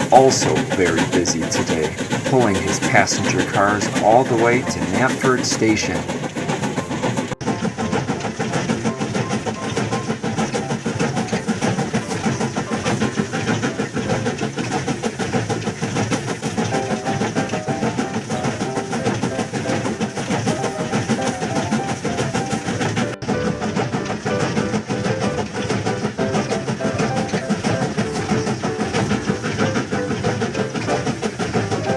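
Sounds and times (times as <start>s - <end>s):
toy train wheels clattering on track: 0.0s - 31.9s
toy train motor whir: 6.0s - 31.9s.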